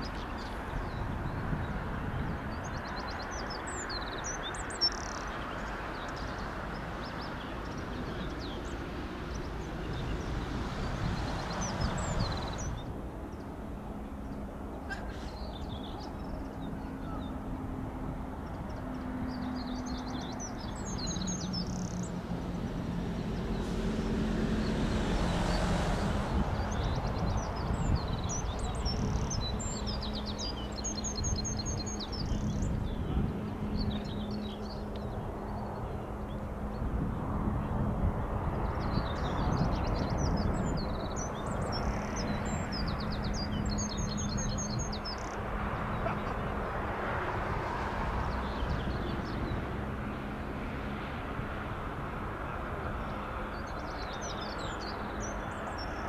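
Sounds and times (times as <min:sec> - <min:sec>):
small birds chirping: 0:00.0 - 0:13.6, 0:14.2 - 0:17.6, 0:18.3 - 0:23.8, 0:24.6 - 0:37.0, 0:37.6 - 0:47.3, 0:48.2 - 0:51.0, 0:52.8 - 0:56.0
steady rushing noise: 0:00.0 - 0:56.0.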